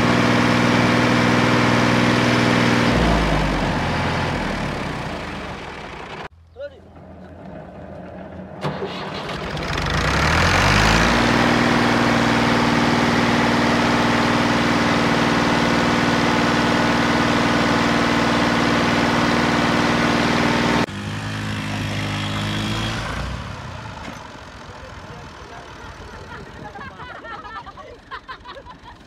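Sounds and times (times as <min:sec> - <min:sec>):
second tractor engine running: 0:00.0 - 0:06.3, 0:07.9 - 0:29.0
tractor diesel engine running: 0:00.0 - 0:06.3, 0:07.0 - 0:29.0.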